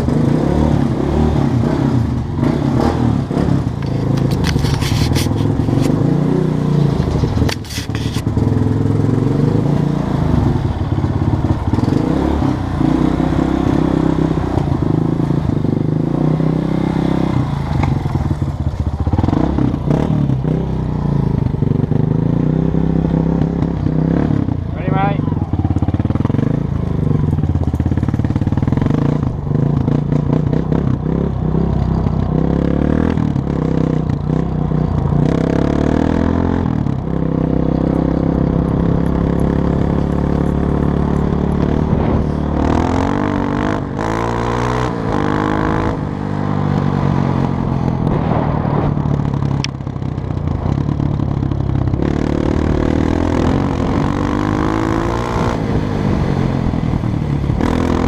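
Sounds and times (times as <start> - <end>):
dirt bike engine revving: 0.0 - 49.6, 50.7 - 58.0.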